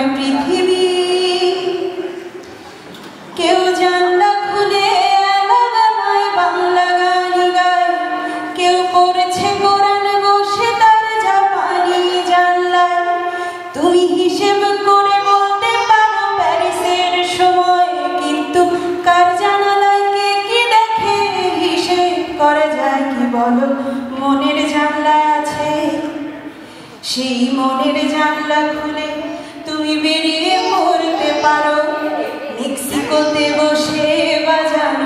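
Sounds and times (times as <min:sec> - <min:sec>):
woman singing into microphone: 0:00.0 - 0:02.2, 0:03.3 - 0:35.0.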